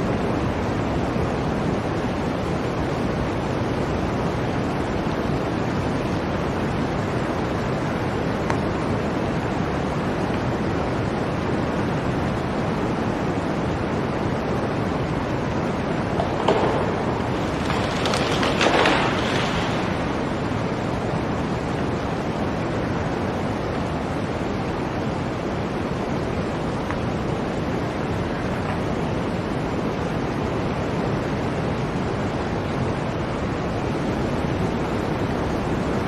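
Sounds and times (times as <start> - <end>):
blizzard wind blowing: 0.0 - 36.0.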